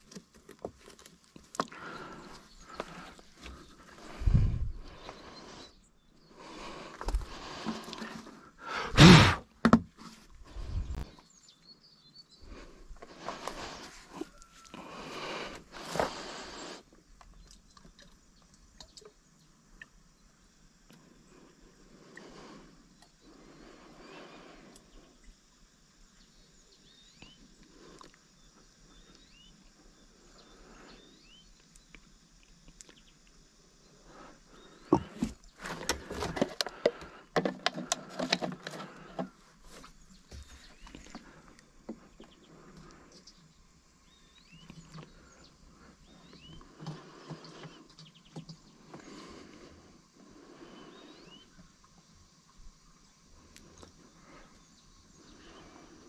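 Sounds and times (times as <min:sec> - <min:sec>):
small birds chirping faintly: 0:00.0 - 0:56.0.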